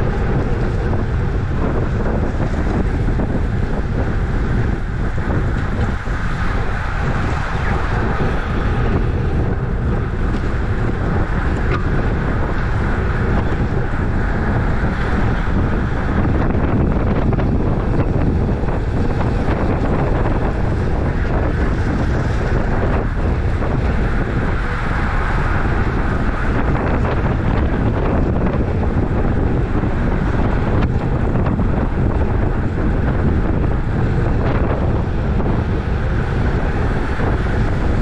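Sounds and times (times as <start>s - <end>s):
tyres hissing on wet road: 0.0s - 38.0s
wind buffeting microphone: 0.0s - 38.0s.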